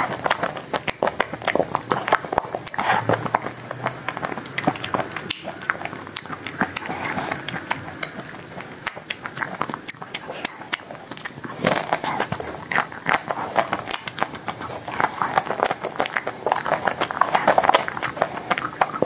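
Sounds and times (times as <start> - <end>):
chocolate shell crunching: 0.0 - 19.0
wet mouth clicks and smacks: 0.0 - 19.0.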